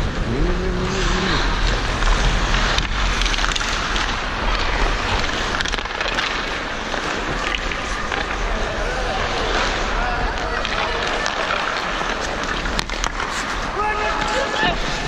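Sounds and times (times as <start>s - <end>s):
skates scraping on ice: 0.4s - 15.0s.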